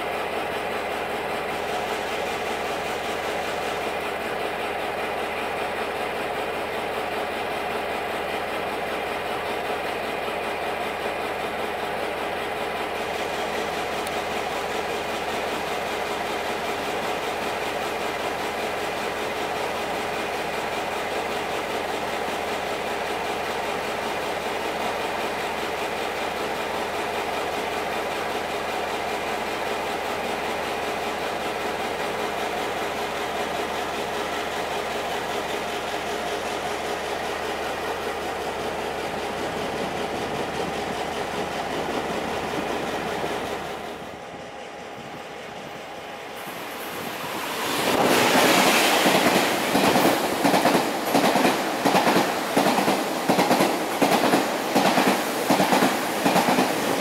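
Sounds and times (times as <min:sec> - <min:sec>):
train engine idling hum: 0:00.0 - 0:57.0.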